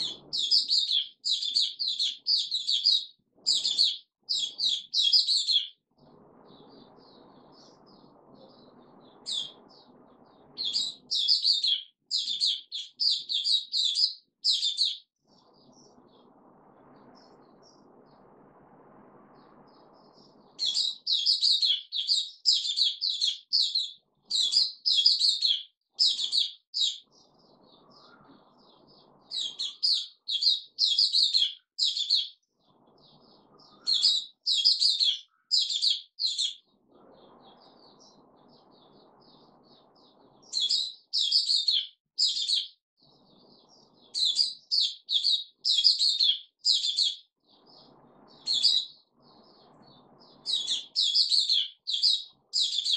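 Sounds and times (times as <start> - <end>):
bulbul singing: 0.0 - 18.4, 19.2 - 52.9
faint low hum: 0.0 - 41.3, 46.6 - 52.9.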